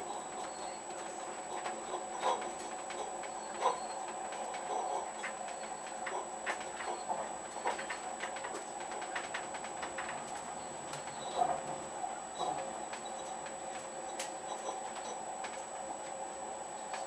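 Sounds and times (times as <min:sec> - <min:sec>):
train running hum: 0:00.0 - 0:17.0.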